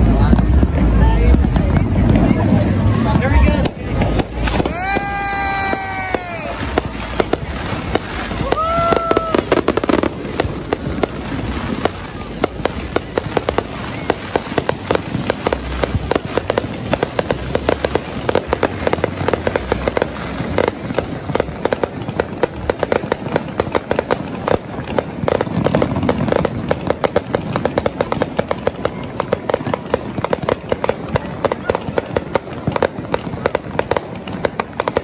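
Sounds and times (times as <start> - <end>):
deep fireworks booms: 0.0 - 35.0
fireworks crackling: 0.0 - 35.0.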